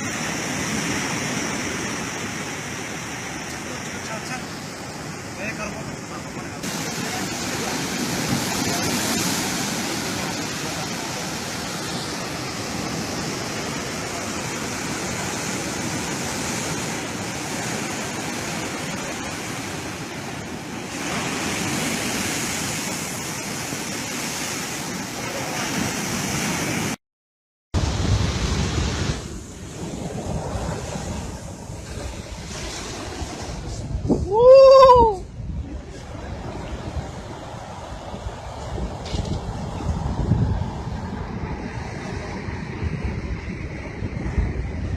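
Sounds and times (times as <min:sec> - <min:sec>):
waves breaking on beach: 0:00.0 - 0:27.0, 0:27.8 - 0:44.9.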